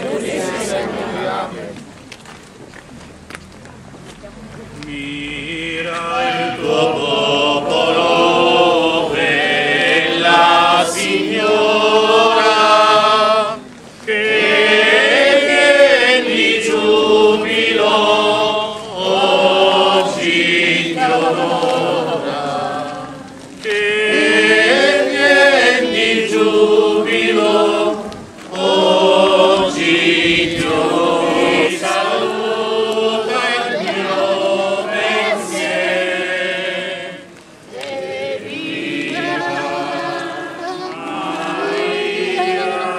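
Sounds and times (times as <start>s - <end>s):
group singing a hymn: 0.0s - 1.9s, 4.8s - 42.9s.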